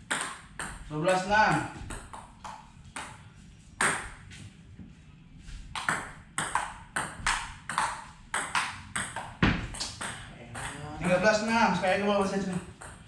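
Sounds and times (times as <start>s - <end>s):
ping pong ball hitting paddles: 0.0s - 3.2s, 3.8s - 4.3s, 5.7s - 13.0s.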